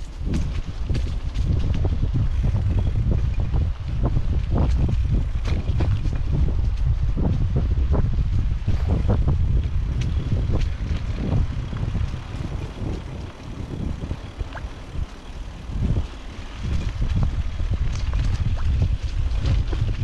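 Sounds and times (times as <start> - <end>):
bicycle clicks and rattles: 0.0 - 20.0
wind rumbling on microphone: 0.0 - 20.0.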